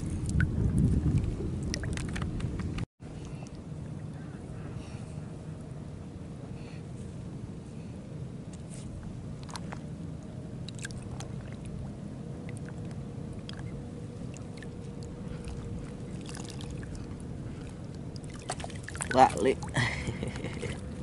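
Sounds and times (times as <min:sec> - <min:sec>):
faint steady hum: 0:00.0 - 0:21.0
low rumble of open-air ambience: 0:00.0 - 0:21.0.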